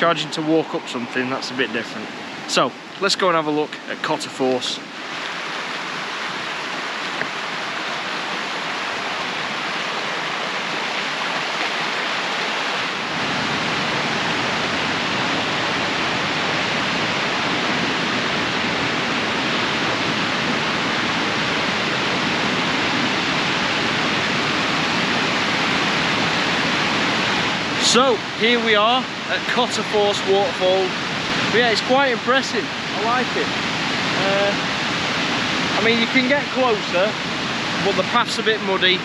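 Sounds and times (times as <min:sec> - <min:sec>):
water rushing over waterfall: 0:00.0 - 0:39.0.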